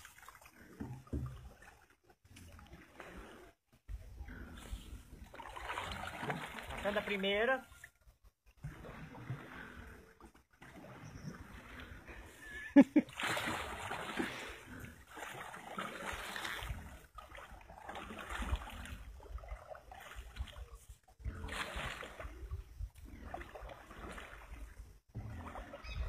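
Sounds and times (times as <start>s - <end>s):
paddle splashing in water: 0.0s - 3.7s, 4.6s - 26.0s.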